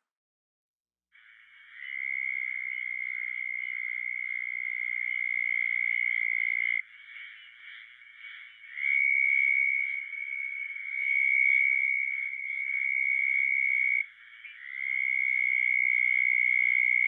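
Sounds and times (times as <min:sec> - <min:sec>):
background toad chorus: 0:01.1 - 0:17.0
toad trilling: 0:01.2 - 0:17.0.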